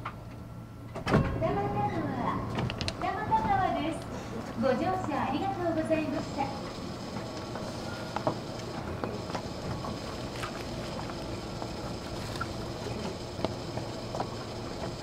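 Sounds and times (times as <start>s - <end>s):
air conditioning hum and hiss: 0.0s - 15.0s.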